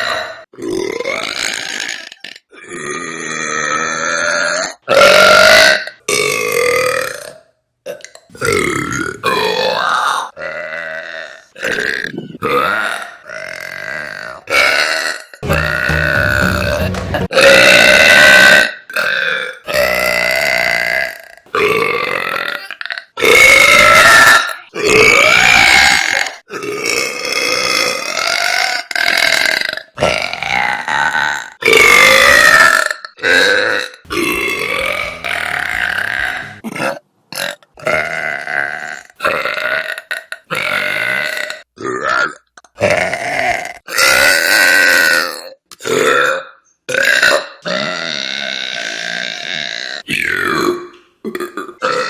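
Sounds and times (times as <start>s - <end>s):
woman belching: 0.0s - 4.5s, 7.9s - 16.1s, 20.1s - 52.0s.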